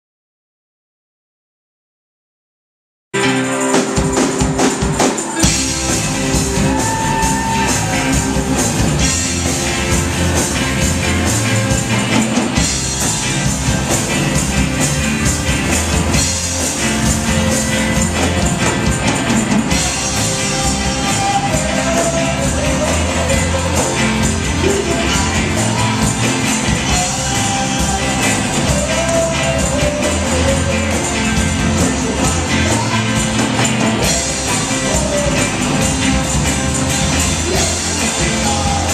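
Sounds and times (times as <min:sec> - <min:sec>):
rock band playing: 0:03.2 - 0:38.9.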